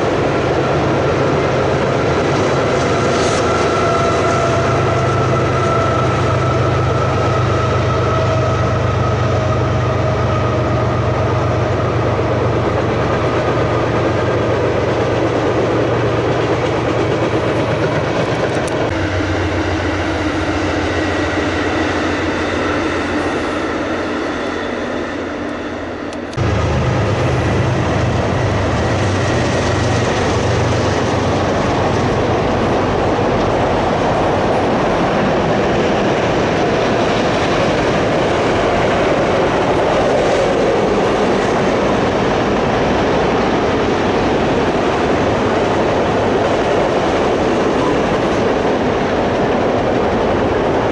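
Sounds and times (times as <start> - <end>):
train wheel clatter: 0.0 - 23.5, 25.0 - 50.9
freight train cars rolling: 0.0 - 50.9
passenger train going by: 0.0 - 50.9.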